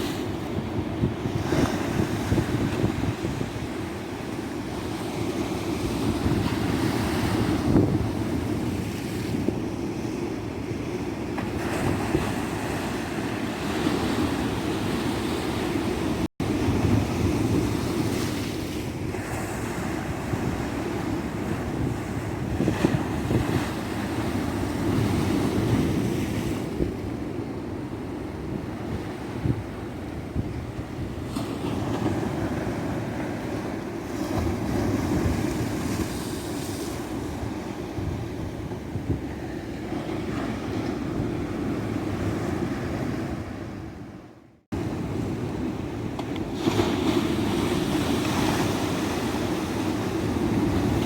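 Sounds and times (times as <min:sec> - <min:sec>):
wind on microphone: 0:00.0 - 0:44.2
ocean waves on a beach: 0:00.0 - 0:51.0.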